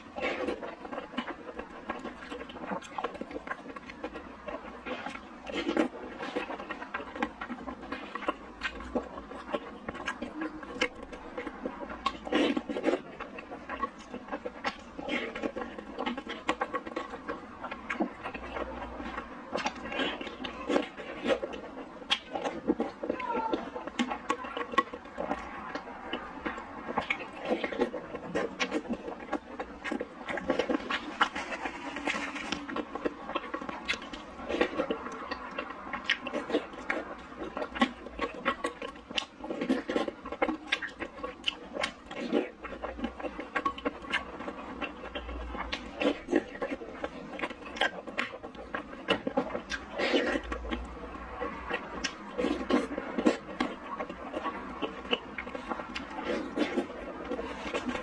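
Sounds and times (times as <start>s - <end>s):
slurping: 0.0s - 58.0s
wet chewing: 0.0s - 58.0s.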